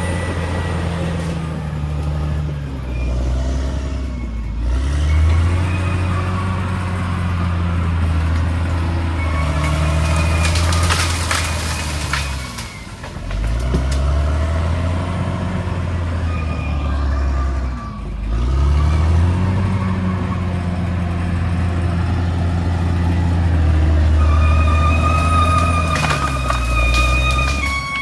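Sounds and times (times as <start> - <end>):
bulldozer diesel engine under load: 0.0 - 28.0.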